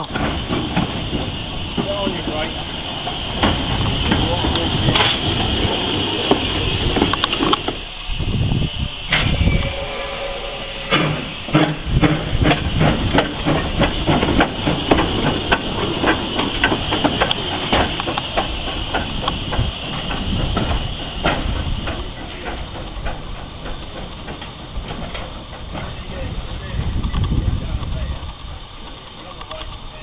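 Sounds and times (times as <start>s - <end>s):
hiss of steam: 0.0s - 30.0s
steam locomotive chuffing: 0.0s - 30.0s.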